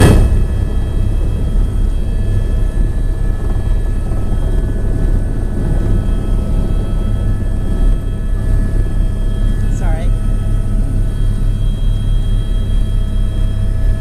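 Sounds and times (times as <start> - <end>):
helicopter rotor drone: 0.0 - 14.0
high turbine whine: 0.0 - 14.0.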